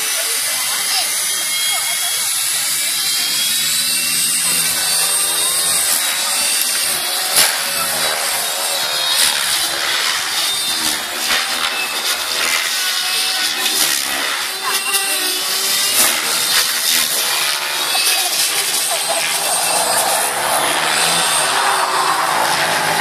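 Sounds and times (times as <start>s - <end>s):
rc helicopter motor and rotor whine: 0.0s - 23.0s.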